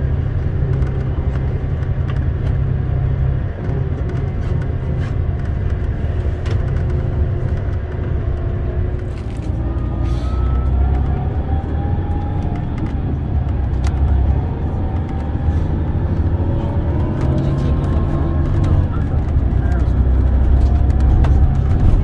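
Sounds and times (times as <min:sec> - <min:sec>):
coach engine and road rumble: 0:00.0 - 0:22.0.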